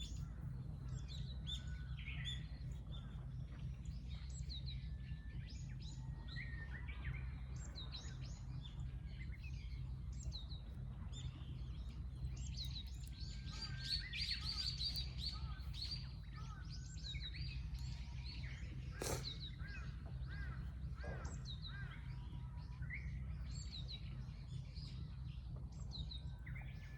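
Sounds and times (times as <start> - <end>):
low rumble: 0.0 - 26.9
small birds chirping: 0.0 - 26.9.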